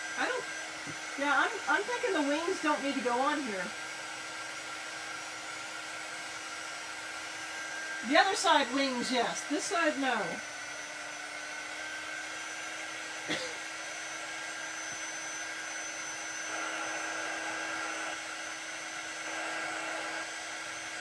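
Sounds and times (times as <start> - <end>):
electric dryer blowing air: 0.0 - 21.0.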